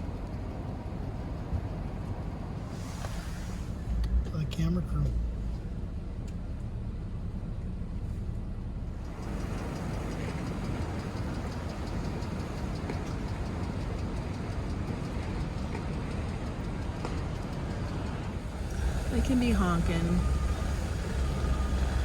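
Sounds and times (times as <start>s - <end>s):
car engine and road rumble: 0.0s - 22.0s
road noise hiss: 0.0s - 22.0s.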